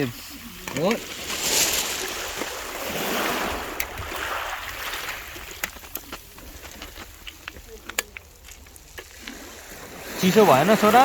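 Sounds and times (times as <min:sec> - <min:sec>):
sea wave surging over stones: 0:00.0 - 0:07.3, 0:08.2 - 0:11.0.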